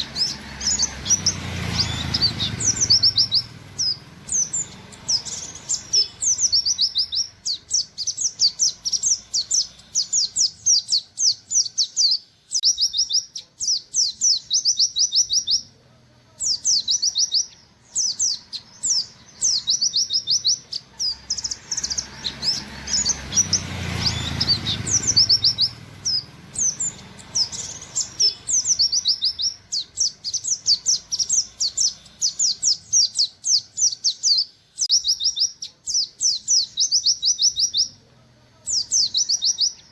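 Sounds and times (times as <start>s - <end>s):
bird singing rapid high notes: 0.0s - 15.8s, 16.4s - 38.0s.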